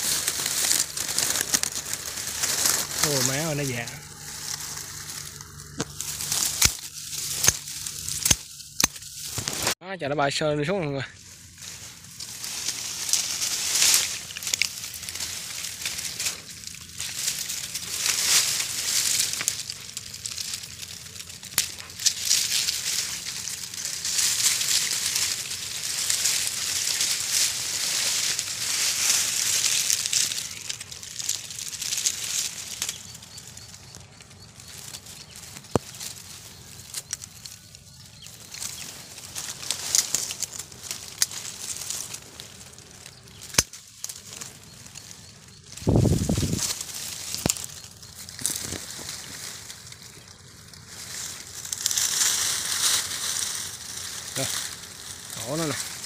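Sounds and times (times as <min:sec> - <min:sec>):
leaves and twigs rustling: 0:00.0 - 0:09.8, 0:10.7 - 0:56.0
twigs snapping: 0:00.0 - 0:09.8, 0:11.6 - 0:56.0.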